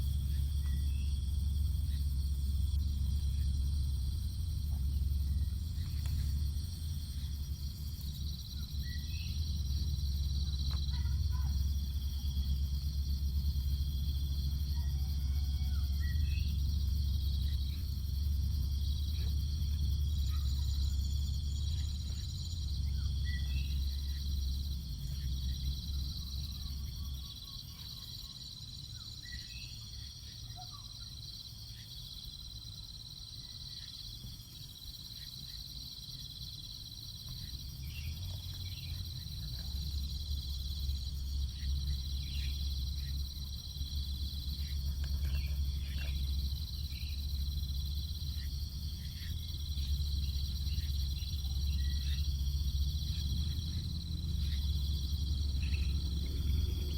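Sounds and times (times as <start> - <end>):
low rumble: 0.0 - 27.0, 37.5 - 56.9
faint chirps: 0.0 - 31.9, 37.2 - 56.9
insects trilling: 0.0 - 56.9.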